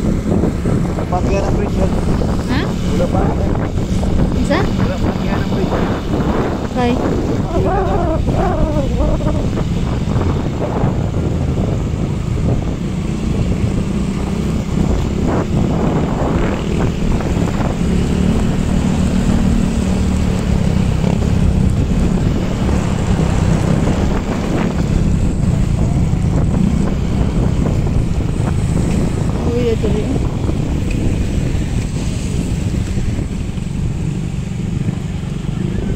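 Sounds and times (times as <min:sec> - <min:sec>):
motorcycle engine running: 0:00.0 - 0:35.9
wind buffeting microphone: 0:00.0 - 0:35.9.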